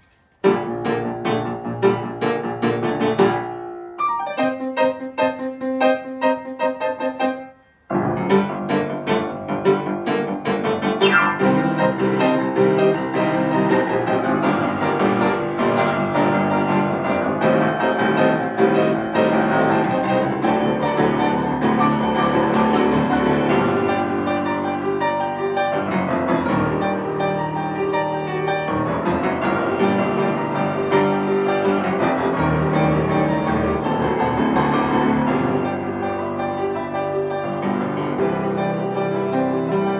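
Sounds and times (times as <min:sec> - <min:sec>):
piano duet: 0:00.0 - 0:39.9.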